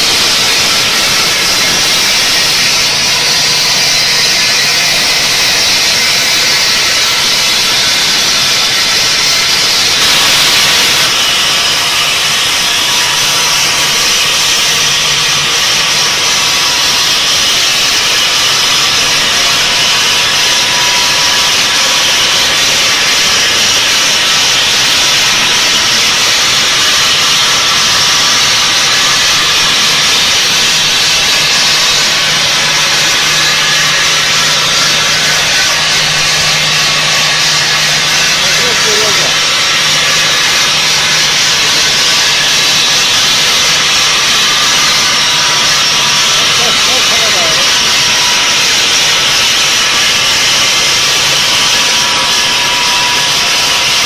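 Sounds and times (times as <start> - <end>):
machine hum: 0.0 - 54.0
saw blades grinding stone: 0.0 - 54.0.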